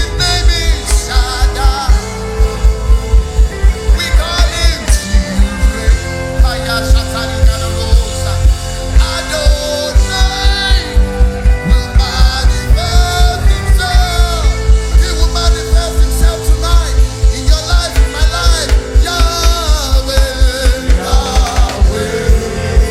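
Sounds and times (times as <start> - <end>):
fast heavy drum beat: 0.0 - 22.9
worship band and singers: 0.0 - 22.9.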